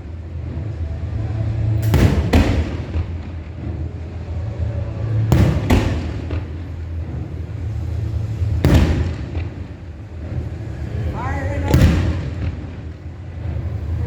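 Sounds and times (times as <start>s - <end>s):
fireworks booming: 0.0s - 4.3s, 5.0s - 10.6s, 11.5s - 14.0s
steady low rumble: 0.0s - 14.0s.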